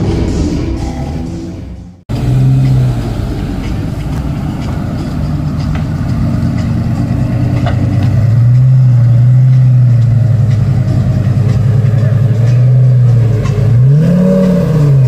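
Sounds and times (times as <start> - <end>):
car engine running at low revs: 2.1 - 15.0.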